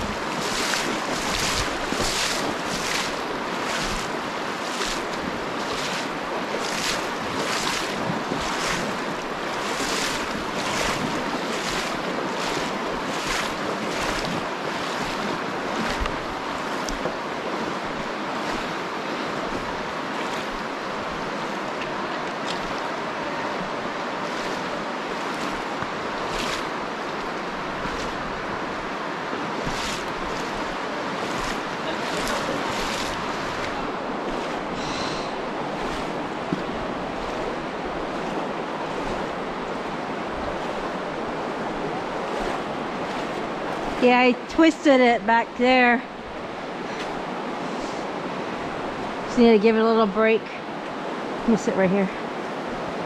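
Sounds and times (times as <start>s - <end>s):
feet wading through water: 0.0s - 44.5s, 46.0s - 49.4s
river rushing: 0.0s - 53.0s.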